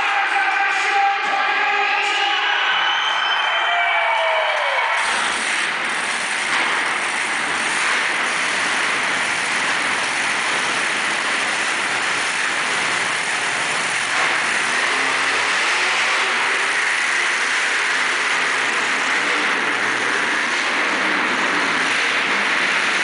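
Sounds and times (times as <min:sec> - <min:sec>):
monster truck engines running: 0:00.0 - 0:23.0.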